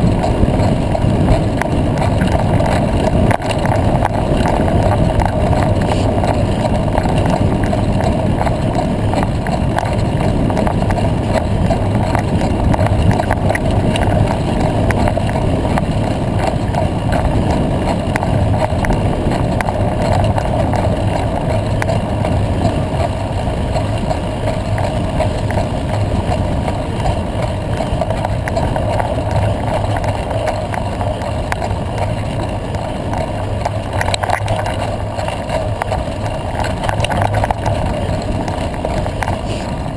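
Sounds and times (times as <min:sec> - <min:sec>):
tyres rumbling on gravel: 0:00.0 - 0:39.9
wind buffeting microphone: 0:00.0 - 0:39.9.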